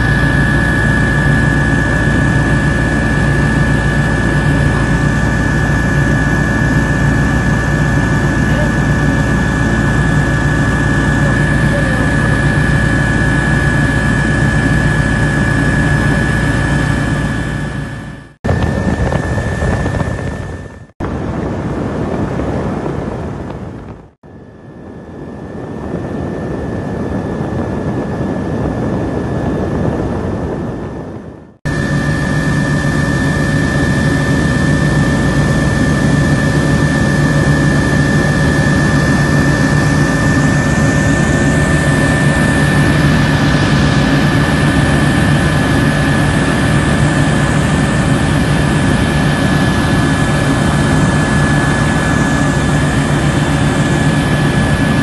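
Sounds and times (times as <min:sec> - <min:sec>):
helicopter engine and rotor drone: 0:00.0 - 0:55.0
high whine: 0:00.0 - 0:55.0.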